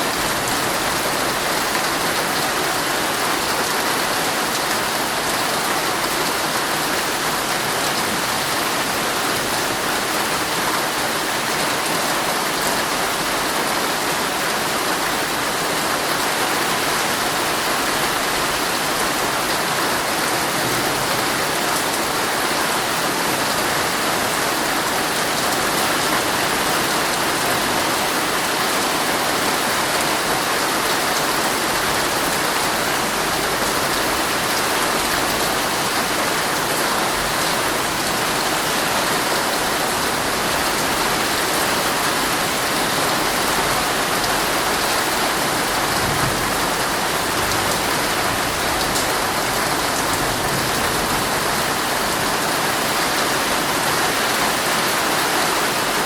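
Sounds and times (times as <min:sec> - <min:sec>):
heavy rain on tent fabric: 0:00.0 - 0:56.0.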